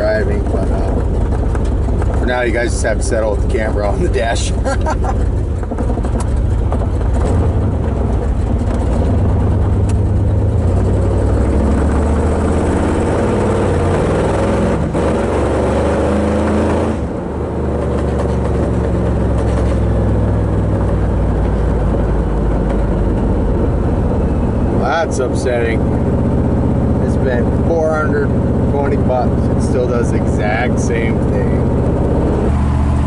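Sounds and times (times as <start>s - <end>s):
car engine drone from inside: 0.0s - 33.0s.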